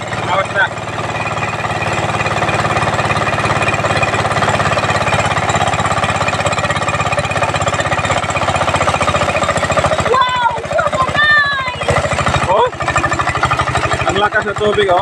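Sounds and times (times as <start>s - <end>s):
diesel engine running: 0.0s - 15.0s
water gushing from pump outlet: 0.0s - 15.0s.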